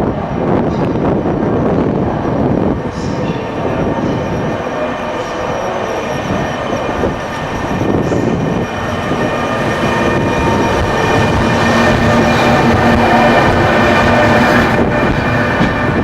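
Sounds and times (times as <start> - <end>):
electric locomotive whine: 0.0 - 16.0
train wheels rumbling: 0.0 - 16.0.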